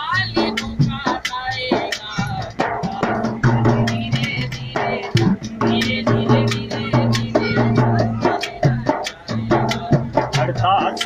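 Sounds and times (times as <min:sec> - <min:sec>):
hand drums rhythm: 0:00.0 - 0:11.0.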